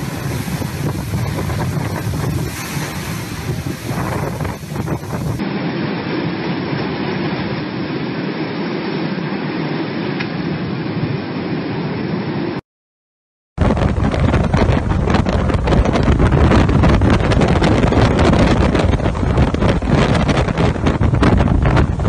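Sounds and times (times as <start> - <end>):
strong wind buffeting microphone: 0.0 - 12.2, 13.6 - 22.0.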